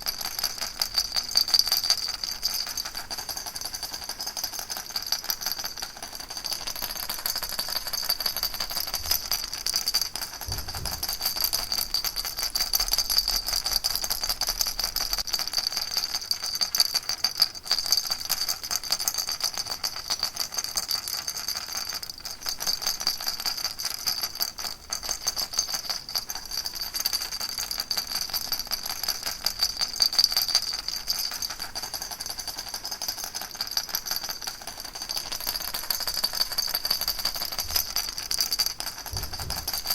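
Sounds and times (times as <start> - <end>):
baby rattle shaken: 0.0 - 20.0, 20.6 - 39.9.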